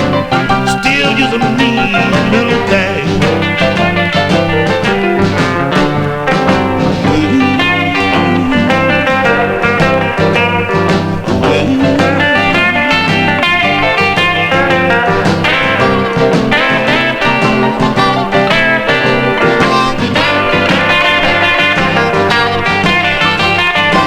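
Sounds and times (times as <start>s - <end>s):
blues band rhythm: 0.0s - 24.0s
electric guitar leading: 0.0s - 24.0s.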